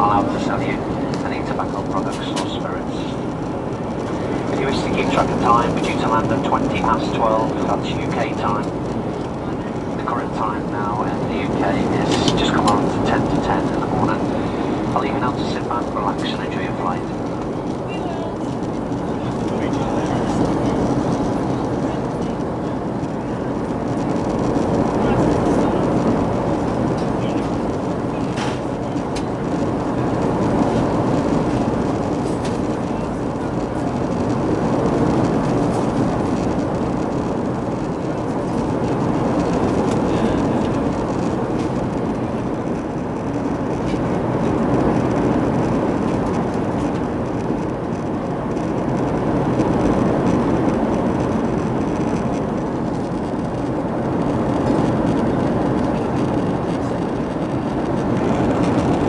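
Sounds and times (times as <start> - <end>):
jet engine roar in cabin: 0.0 - 59.0
rushing air: 0.0 - 59.0.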